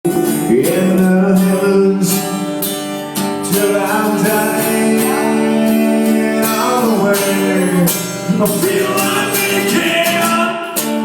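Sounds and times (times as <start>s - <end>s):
country band playing: 0.0s - 11.0s
strummed acoustic guitar: 0.0s - 11.0s.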